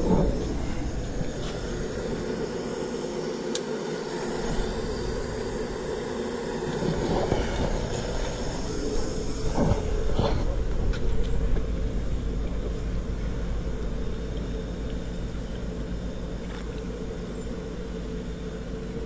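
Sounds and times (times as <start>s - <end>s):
forge burner rushing: 0.0s - 19.0s.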